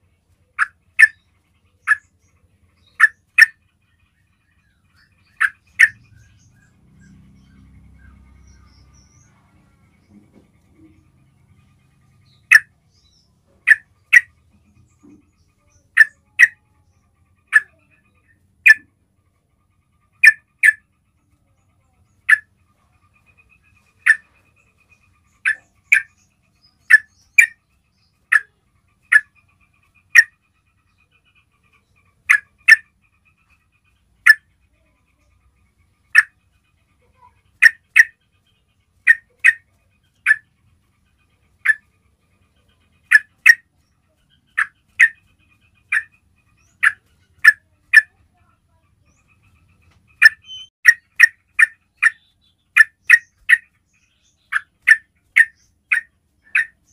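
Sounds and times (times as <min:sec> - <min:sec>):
bird chip calls: 0:00.0 - 0:19.0, 0:19.7 - 0:56.9.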